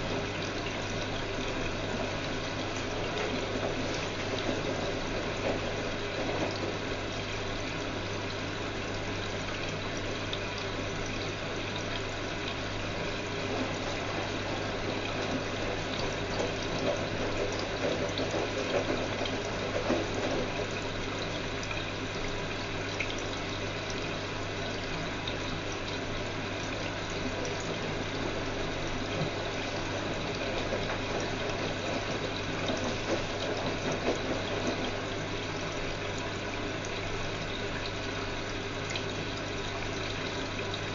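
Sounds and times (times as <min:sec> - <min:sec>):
washing machine low hum: 0:00.0 - 0:40.9
washing machine water sloshing: 0:00.0 - 0:40.9.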